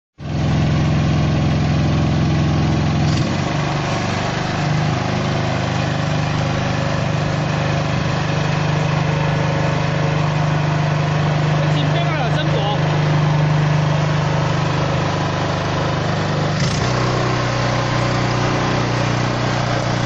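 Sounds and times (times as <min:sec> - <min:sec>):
branch shredder engine running: 0:00.2 - 0:20.0
shredder shredding branches: 0:00.2 - 0:20.0.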